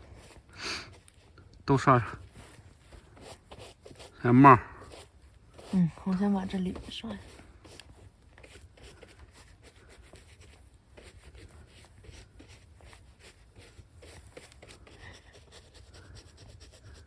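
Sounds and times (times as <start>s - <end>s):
brush scrubbing mushroom: 0.0s - 17.0s.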